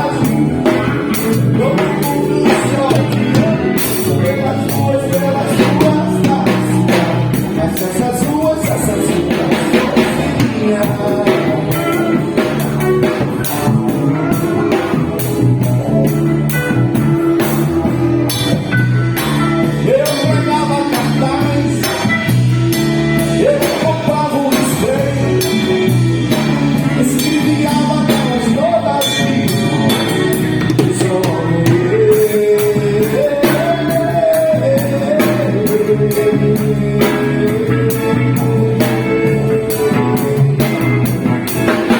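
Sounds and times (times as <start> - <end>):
band playing a song: 0.0 - 41.9
person singing: 0.0 - 41.9.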